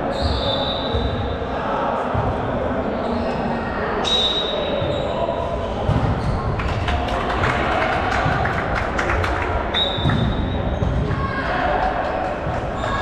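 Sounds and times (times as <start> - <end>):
voices in background: 0.0 - 13.0.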